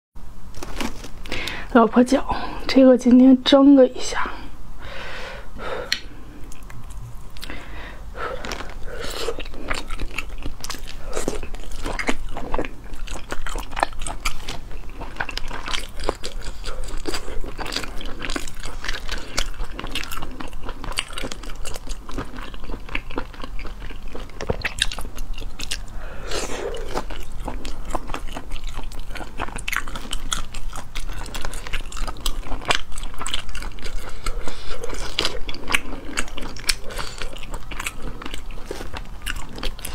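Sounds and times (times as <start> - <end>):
person chewing and smacking: 5.8 - 39.9.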